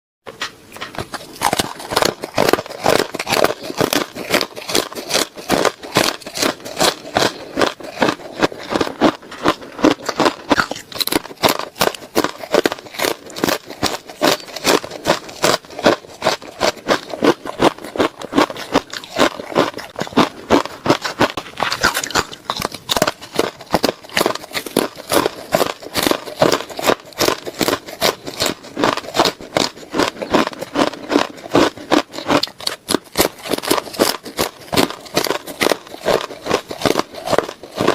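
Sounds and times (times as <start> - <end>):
ice being chewed: 0.3 - 37.9.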